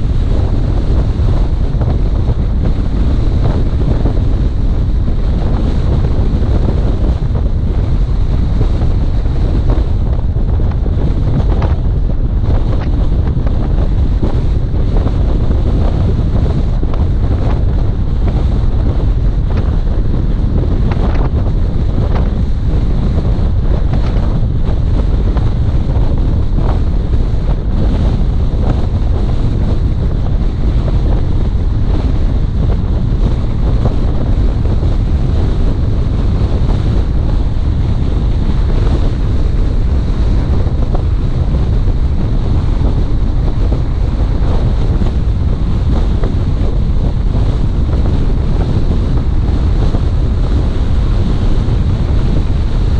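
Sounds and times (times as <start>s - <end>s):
car driving rumble: 0.0s - 52.9s
wind buffeting microphone: 0.0s - 52.9s.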